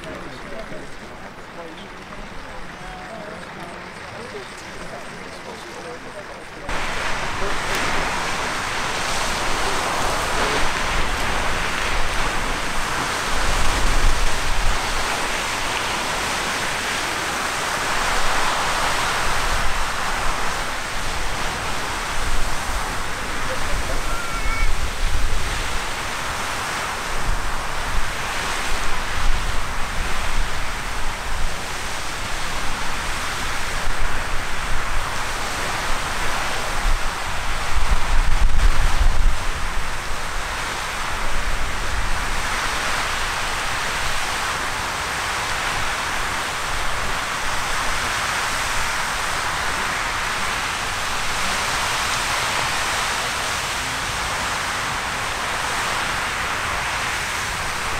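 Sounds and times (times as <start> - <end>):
geyser water jet rushing hiss: 0.0 - 57.9
low rumbling gusts: 0.0 - 57.9.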